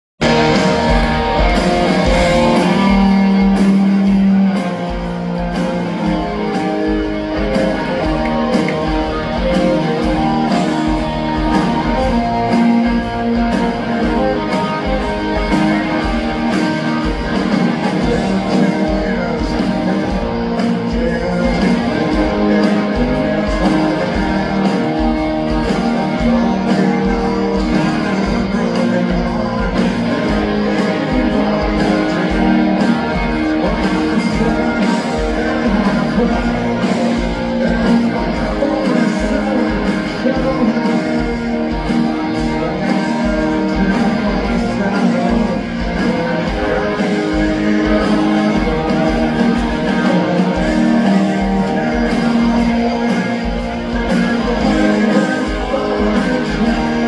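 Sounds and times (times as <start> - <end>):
live rock band playing: 0.2 - 57.0.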